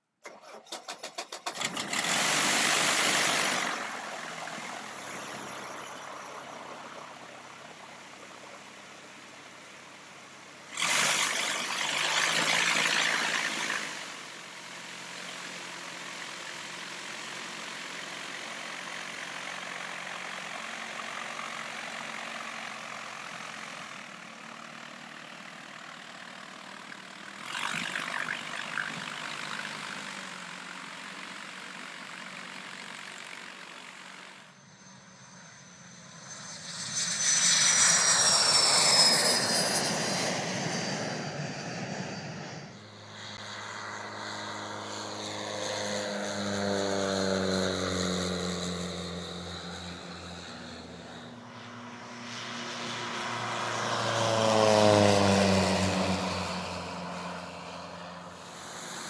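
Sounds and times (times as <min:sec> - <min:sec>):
aircraft engine running: 0:00.2 - 0:59.0.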